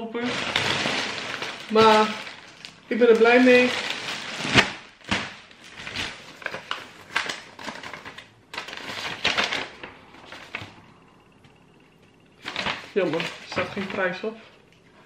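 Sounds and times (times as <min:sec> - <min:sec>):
plastic bag crinkling: 0:00.0 - 0:10.9, 0:12.4 - 0:14.4
paper rustling: 0:00.2 - 0:10.8, 0:12.4 - 0:14.2.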